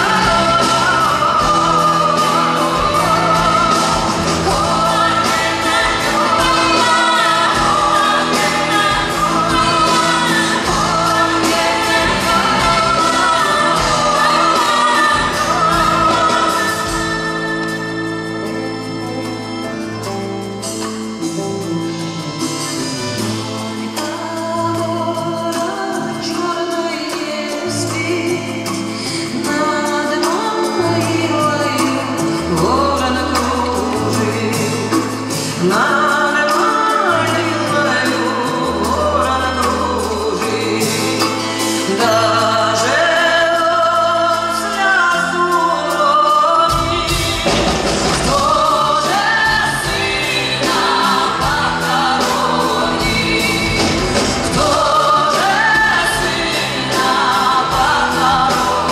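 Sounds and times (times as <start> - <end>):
woman singing into microphone: 0.0 - 19.0, 24.0 - 58.9
band accompaniment: 0.0 - 58.9
drums: 0.0 - 58.9.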